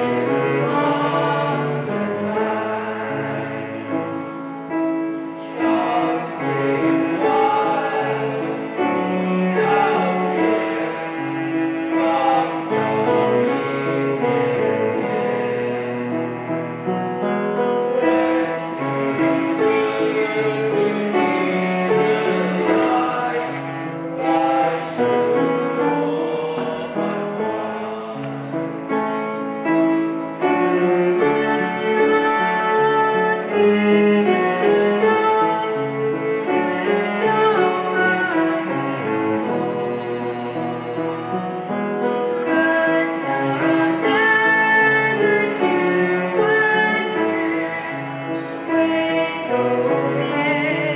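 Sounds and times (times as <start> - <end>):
cello playing: 0.0 - 50.9
young voices singing together: 0.0 - 50.9.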